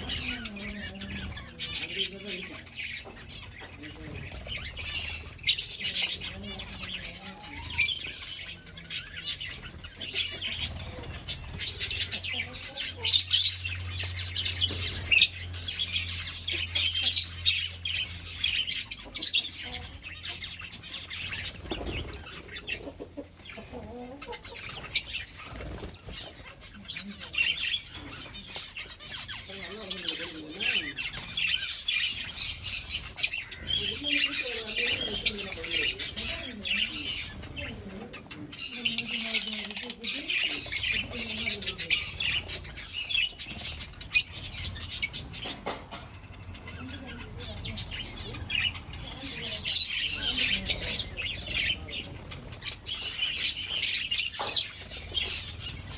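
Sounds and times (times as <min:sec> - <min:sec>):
finches chirping: 0:00.0 - 0:55.9.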